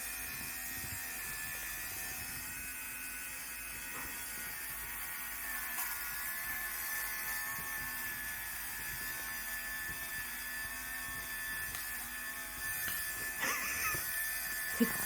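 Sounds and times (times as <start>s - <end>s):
lint remover motor buzzing: 0.0s - 15.0s.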